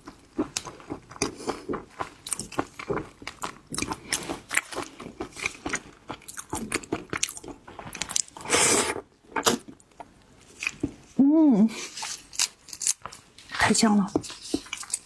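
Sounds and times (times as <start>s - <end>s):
shrimp crunching while chewed: 0.0s - 11.0s, 11.9s - 13.5s, 14.2s - 15.0s.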